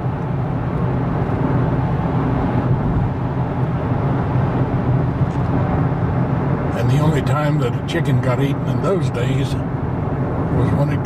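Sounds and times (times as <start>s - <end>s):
car interior road and engine drone: 0.0s - 11.0s.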